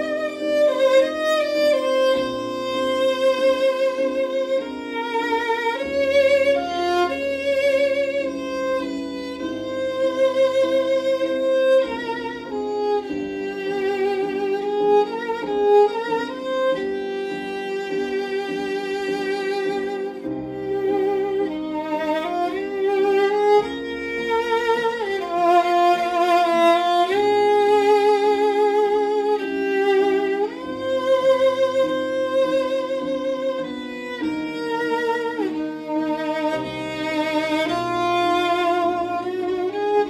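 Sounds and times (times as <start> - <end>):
solo violin slow melody: 0.0 - 40.0.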